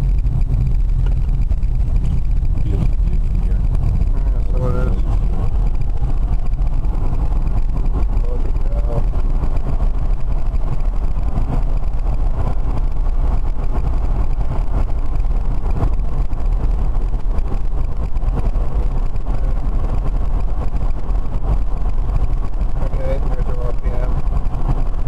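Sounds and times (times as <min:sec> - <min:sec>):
road and wind noise in car cabin: 0:00.0 - 0:25.0.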